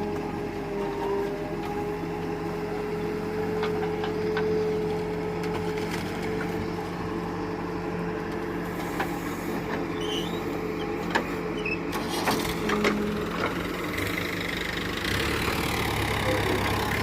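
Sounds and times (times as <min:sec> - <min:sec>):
farm vehicle diesel engine running: 0:00.0 - 0:17.0.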